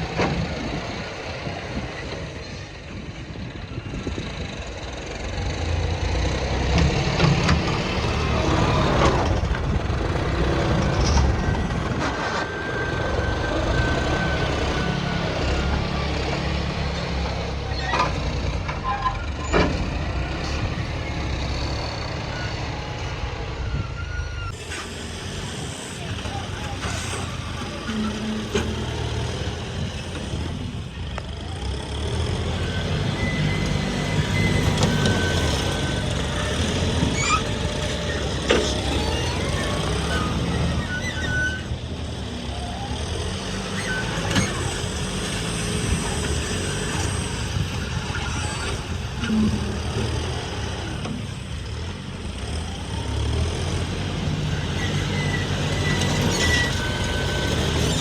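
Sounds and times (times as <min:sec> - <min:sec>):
diesel machinery engines running: 0:00.0 - 0:58.0.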